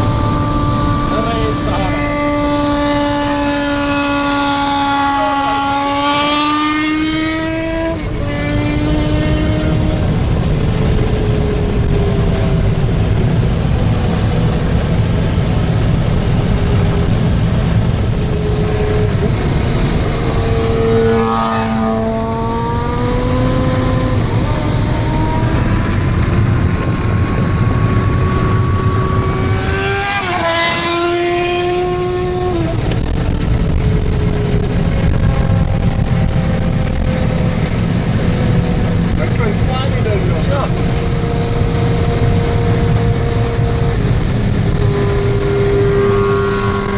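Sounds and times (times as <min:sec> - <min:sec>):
motorcycle engine revving: 0:00.0 - 0:46.9
road and wind rumble: 0:00.0 - 0:46.9.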